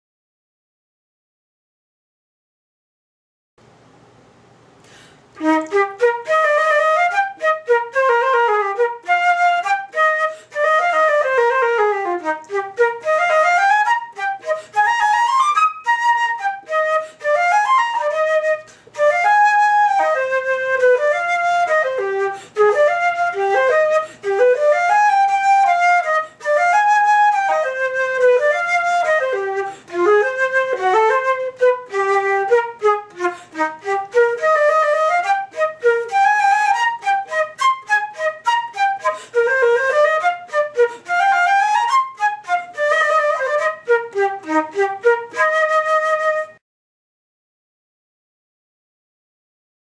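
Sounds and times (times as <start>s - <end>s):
flute playing fast runs: 5.4s - 46.6s.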